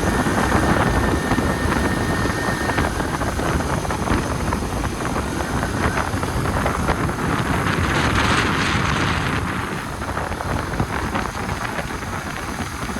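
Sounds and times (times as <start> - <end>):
motorcycle engine running: 0.0 - 12.9
wind buffeting microphone: 0.0 - 12.9.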